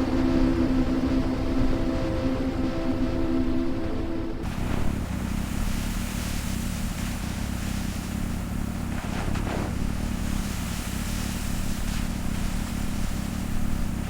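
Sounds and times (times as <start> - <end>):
heavy vehicle engine running: 0.0 - 14.0.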